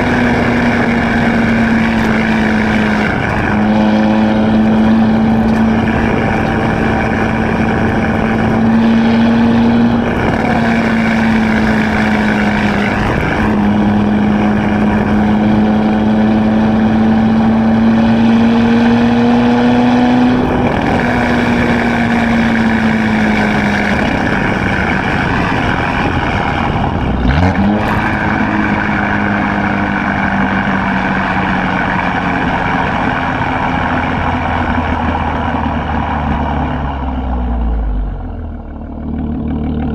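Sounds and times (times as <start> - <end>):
car exhaust droning: 0.0 - 39.9.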